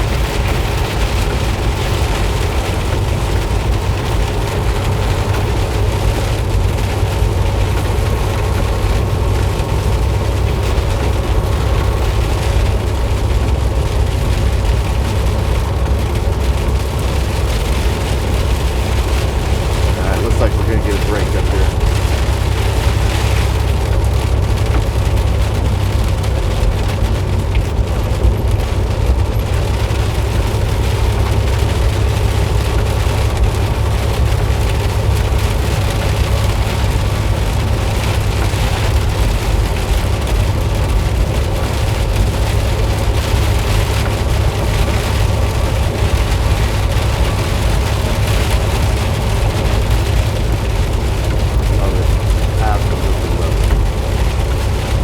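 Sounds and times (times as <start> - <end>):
heavy rain on a truck: 0.0 - 55.0
truck engine and tyres rumbling: 0.0 - 55.0.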